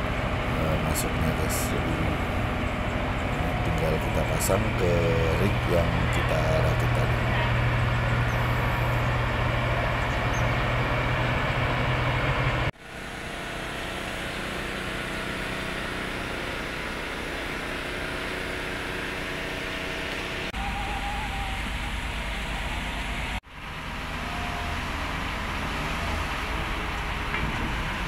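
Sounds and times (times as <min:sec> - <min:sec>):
diesel excavator engine idling: 0:00.0 - 0:28.0.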